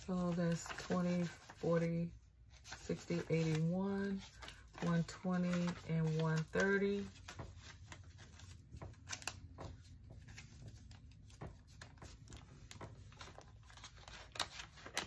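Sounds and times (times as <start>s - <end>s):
banknotes flicked and rustling: 0.1s - 15.0s.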